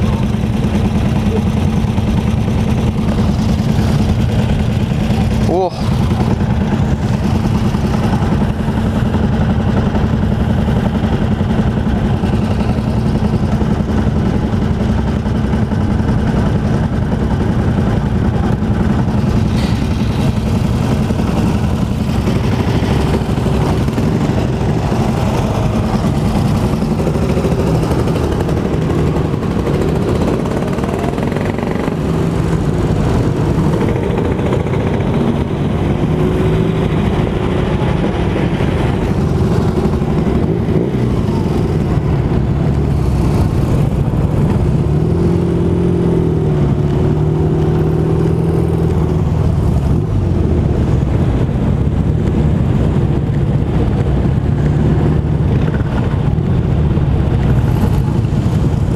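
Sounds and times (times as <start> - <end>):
motorcycle engines running: 0.0 - 58.9.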